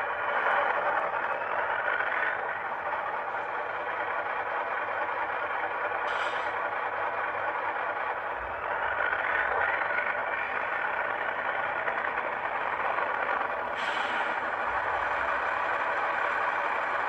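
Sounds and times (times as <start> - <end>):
diesel engine through small speaker: 0.0 - 17.0.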